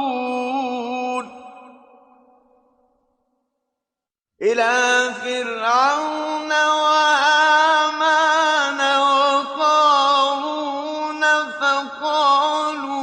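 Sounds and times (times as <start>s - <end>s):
man reciting melodically: 0.0s - 2.0s, 4.4s - 13.0s.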